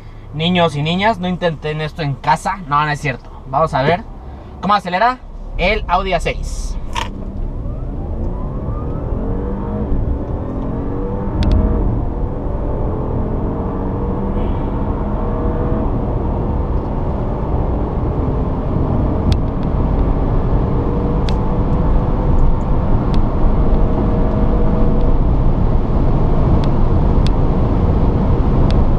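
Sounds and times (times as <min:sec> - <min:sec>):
road and wind noise: 0:00.0 - 0:28.9
car engine accelerating: 0:03.1 - 0:28.9.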